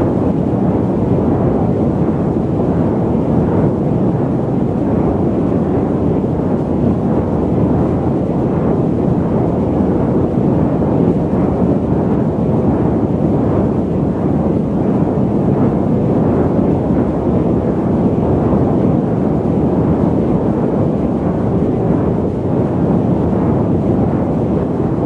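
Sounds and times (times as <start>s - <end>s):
jet airliner cabin rumble: 0.0s - 25.0s.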